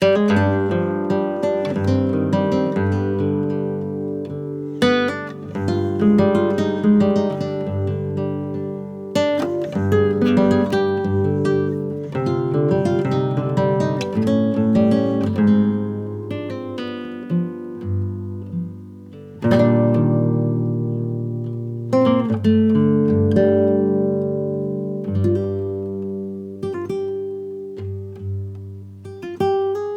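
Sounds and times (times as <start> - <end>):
acoustic guitar music: 0.0 - 29.9.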